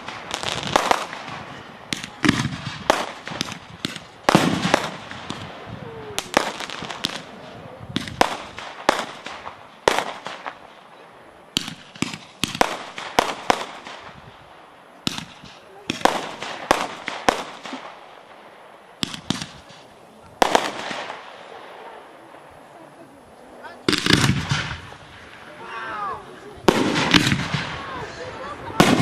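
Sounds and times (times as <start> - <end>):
fireworks bursting with bangs: 0.0 - 29.0.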